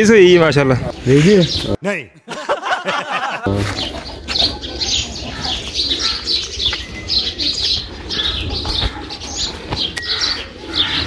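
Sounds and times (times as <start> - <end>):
small birds chirping: 0.0 - 1.8, 3.5 - 11.0.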